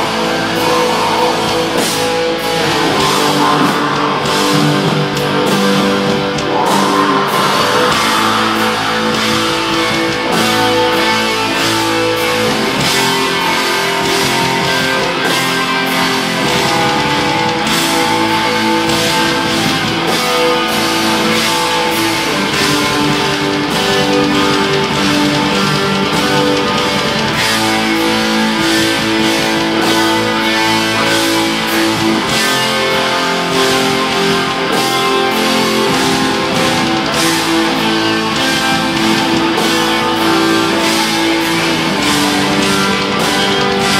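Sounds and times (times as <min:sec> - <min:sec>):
distorted electric guitars: 0:00.0 - 0:43.9
drums and cymbal hits: 0:00.0 - 0:43.9.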